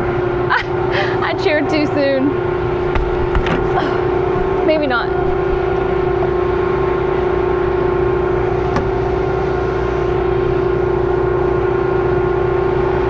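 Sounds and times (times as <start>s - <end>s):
combine machine drone: 0.0s - 13.0s
steady whining tone: 0.0s - 13.0s.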